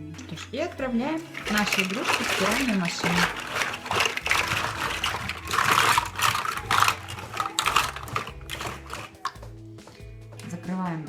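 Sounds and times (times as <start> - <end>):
plastic toys clattering in bag: 0.0 - 9.5.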